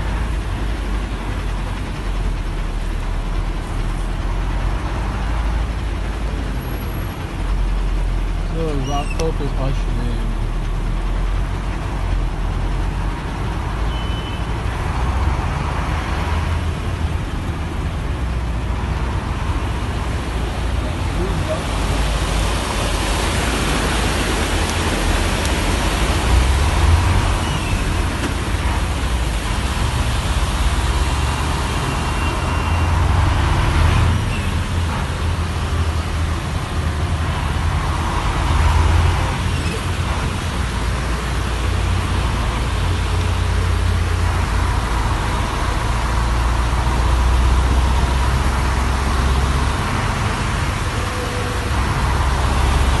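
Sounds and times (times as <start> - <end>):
car traffic: 0.0 - 53.0
rushing floodwater: 0.0 - 53.0.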